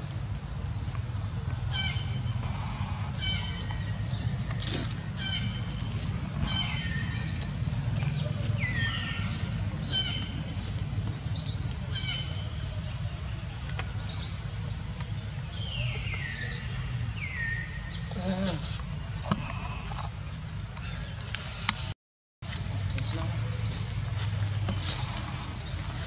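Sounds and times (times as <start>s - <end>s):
low background rumble: 0.0s - 21.7s.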